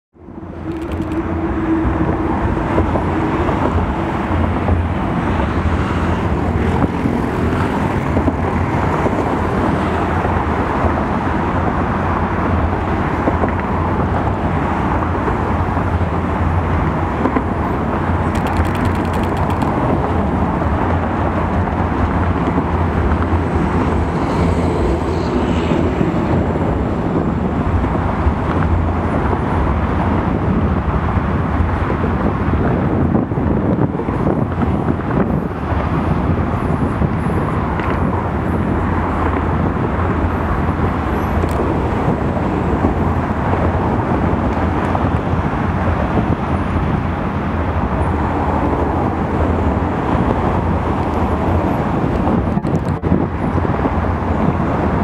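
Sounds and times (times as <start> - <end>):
distant road traffic: 0.2 - 55.0.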